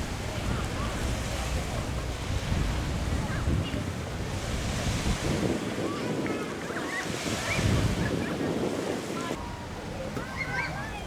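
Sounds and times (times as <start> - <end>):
sea surf: 0.0 - 11.0
wind buffeting microphone: 0.0 - 11.0.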